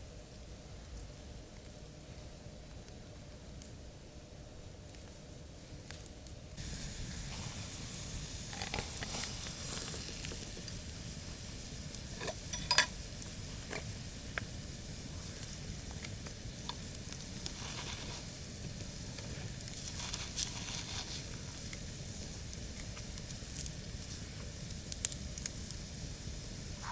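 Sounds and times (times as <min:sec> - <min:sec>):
fire pops and crackles: 0:00.2 - 0:03.9, 0:04.7 - 0:26.9
meat sizzling over campfire: 0:00.2 - 0:26.9.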